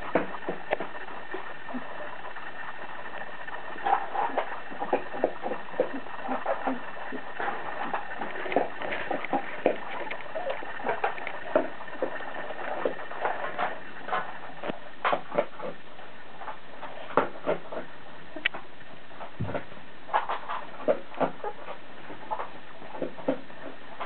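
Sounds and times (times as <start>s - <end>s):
dog crunching dry food: 0.0s - 24.0s.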